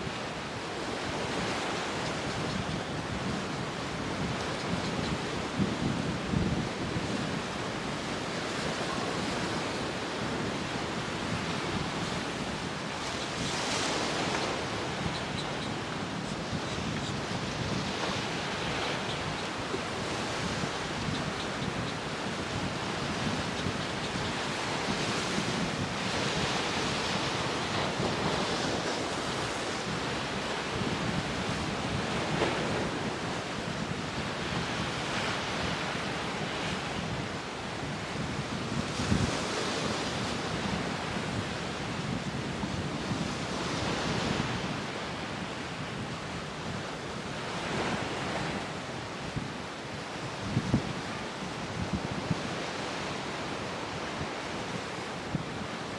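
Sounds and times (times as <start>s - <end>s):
wind blowing across microphone: 0.0s - 55.9s.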